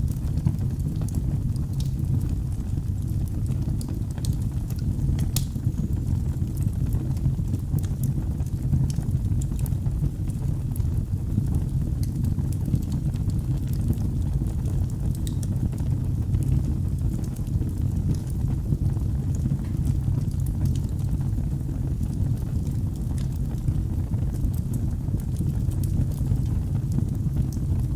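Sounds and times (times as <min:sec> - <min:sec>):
low rumble of flames: 0:00.0 - 0:27.9
wood fire crackling and popping: 0:00.0 - 0:27.9.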